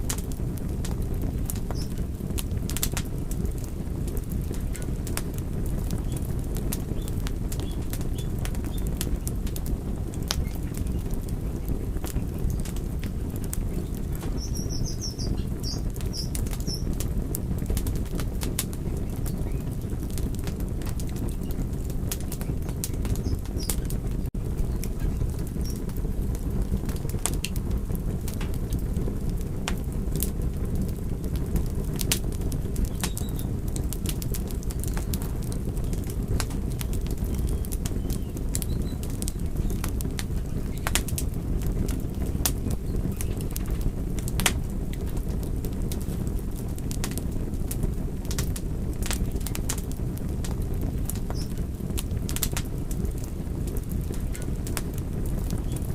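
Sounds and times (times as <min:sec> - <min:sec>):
low roar of flames: 0:00.0 - 0:55.9
wood fire crackling and popping: 0:00.0 - 0:55.9.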